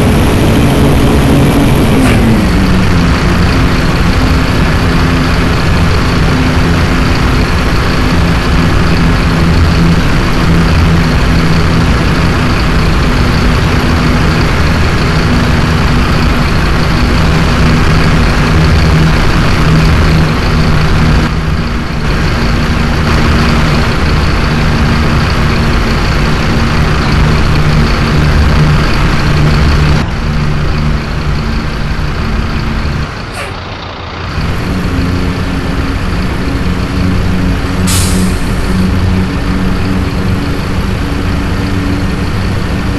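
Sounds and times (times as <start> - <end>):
bus engine running: 0.0 - 42.9.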